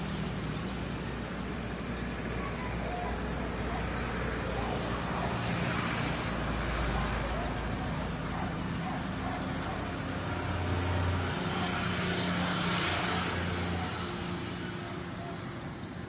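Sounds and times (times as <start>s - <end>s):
vehicle engine passing: 0.0s - 15.9s.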